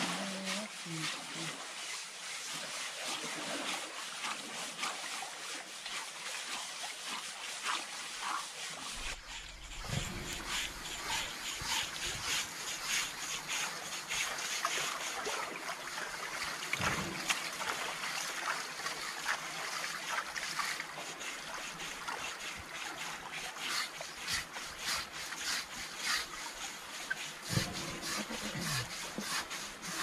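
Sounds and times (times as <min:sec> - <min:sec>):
scrubbing strokes: 0:00.0 - 0:30.0
water splashing and trickling: 0:00.0 - 0:30.0.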